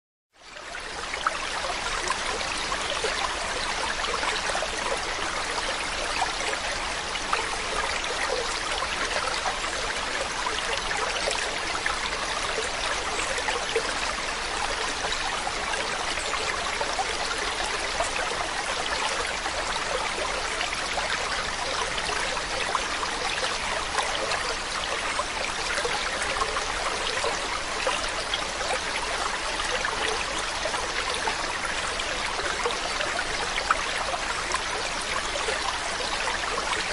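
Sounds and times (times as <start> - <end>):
trickling stream: 0.3 - 36.9.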